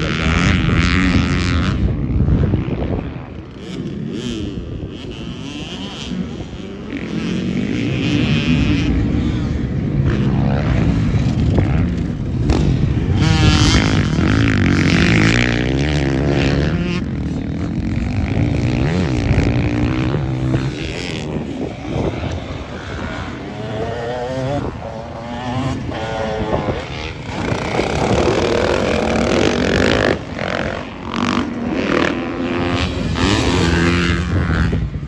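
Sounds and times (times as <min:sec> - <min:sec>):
motocross bike engine revving: 0:00.0 - 0:35.0.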